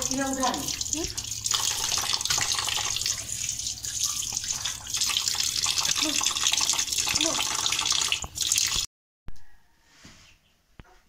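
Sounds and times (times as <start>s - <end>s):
water splashing into steel bowl: 0.0s - 8.9s.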